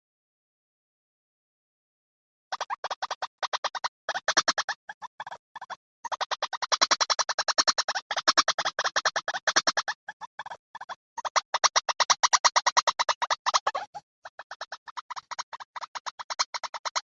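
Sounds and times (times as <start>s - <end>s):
bird calls rapid repeated notes: 2.5s - 17.0s.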